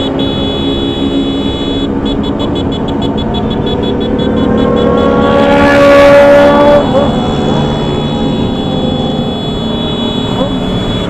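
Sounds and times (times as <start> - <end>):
motorcycle riding: 0.0 - 11.0
steady horn-like tone: 0.0 - 11.0.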